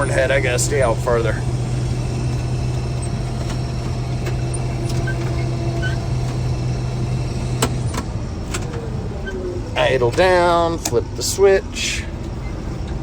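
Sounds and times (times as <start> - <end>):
combine harvester humming: 0.0 - 13.0.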